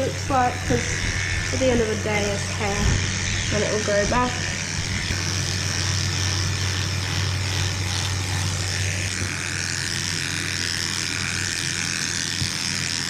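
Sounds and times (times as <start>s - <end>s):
electric clippers humming: 0.0s - 13.0s.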